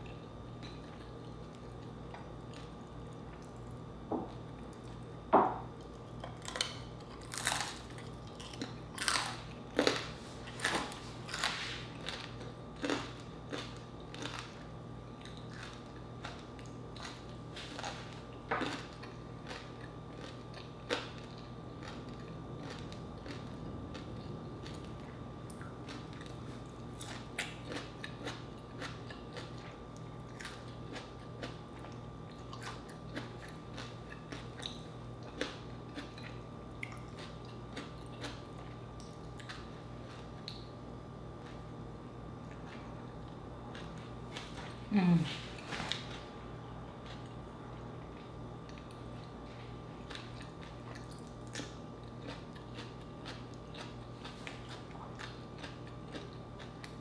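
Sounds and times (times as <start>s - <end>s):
close chewing with crunches: 0.0s - 3.9s, 5.8s - 41.8s, 42.4s - 57.0s
low background hum: 0.0s - 57.0s.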